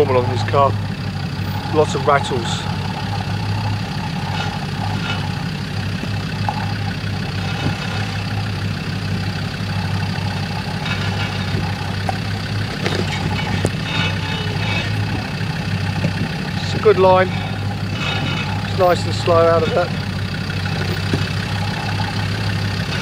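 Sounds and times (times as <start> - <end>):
vehicle clicks and rattles: 0.0 - 23.0
vehicle engine idling: 0.0 - 23.0.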